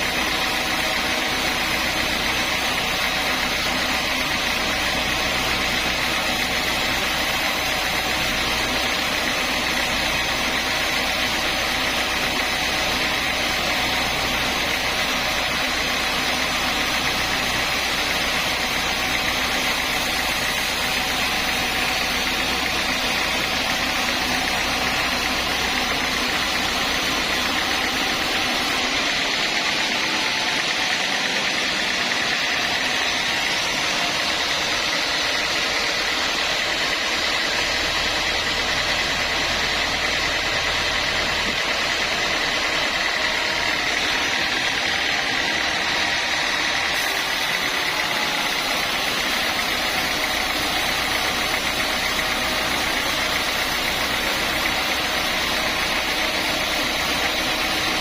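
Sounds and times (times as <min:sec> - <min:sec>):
low machinery rumble: 0:00.0 - 0:58.0
sawmill saw whining: 0:00.0 - 0:58.0.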